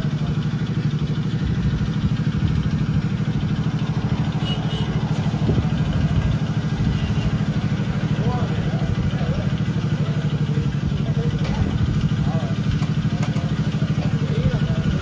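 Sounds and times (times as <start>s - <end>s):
small tractor engine idling: 0.0s - 15.0s.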